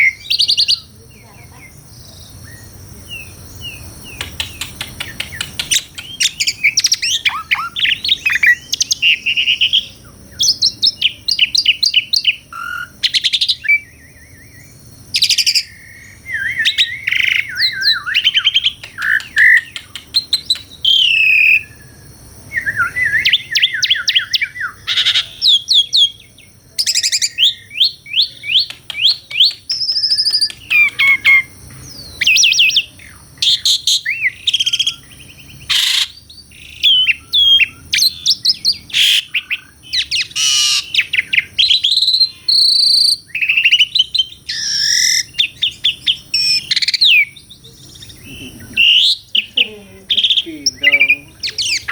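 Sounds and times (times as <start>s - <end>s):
starling singing: 0.0s - 51.9s.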